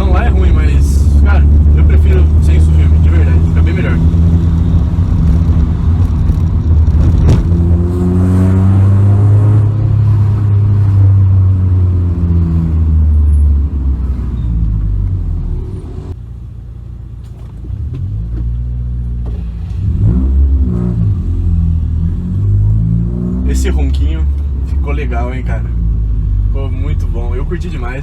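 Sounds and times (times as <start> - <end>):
car engine and exhaust: 0.0 - 28.0.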